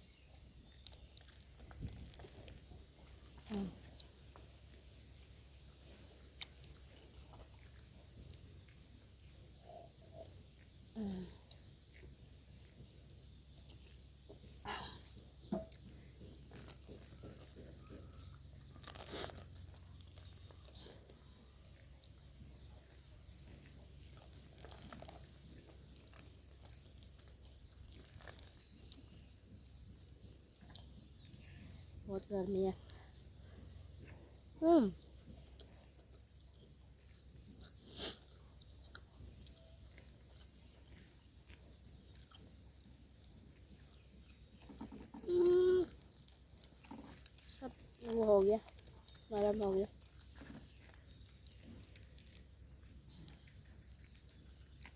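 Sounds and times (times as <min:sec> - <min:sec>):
chewing crunches: 0:00.0 - 0:54.9.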